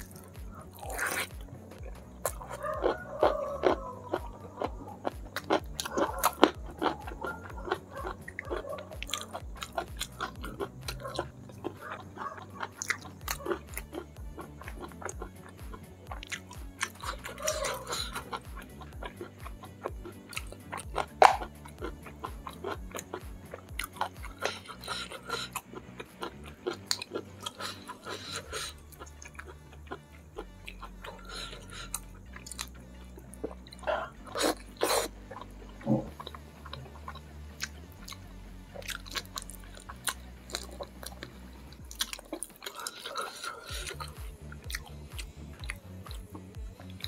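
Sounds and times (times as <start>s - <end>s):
sucking while eating: 0.0s - 1.5s, 2.2s - 23.2s, 23.8s - 32.8s, 33.4s - 38.2s, 38.8s - 47.0s
wet chewing: 0.0s - 47.0s.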